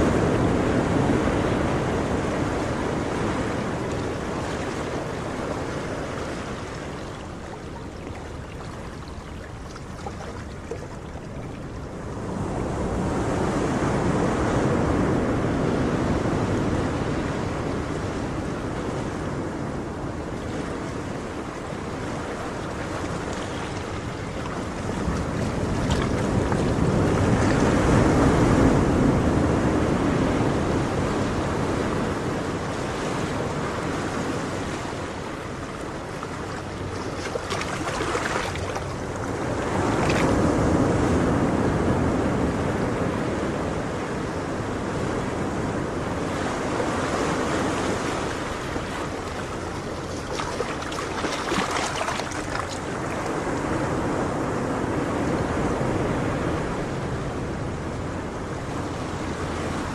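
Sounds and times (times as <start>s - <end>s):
ocean waves washing in: 0.0s - 59.9s.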